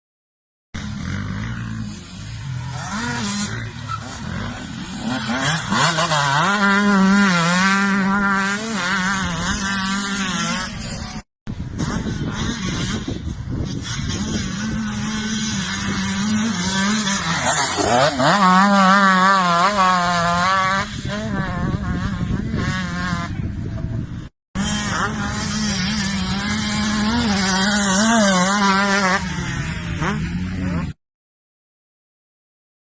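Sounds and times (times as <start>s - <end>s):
dirt bike engine revving: 0.8s - 23.6s, 24.2s - 31.0s.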